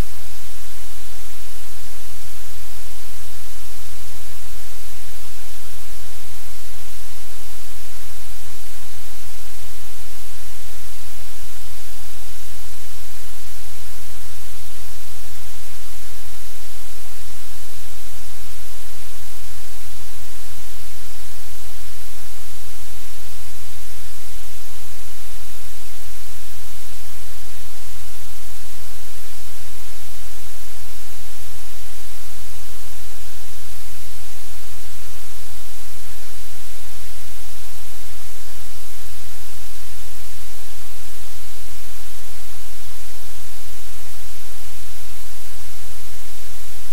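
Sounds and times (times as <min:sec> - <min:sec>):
low electrical hum: 0:00.0 - 0:46.9
static hiss: 0:00.0 - 0:46.9.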